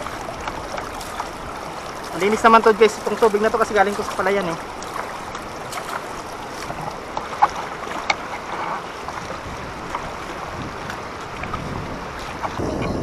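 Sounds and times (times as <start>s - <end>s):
sharp splashes: 0.0s - 12.7s
water sloshing around bicycle: 0.0s - 13.0s.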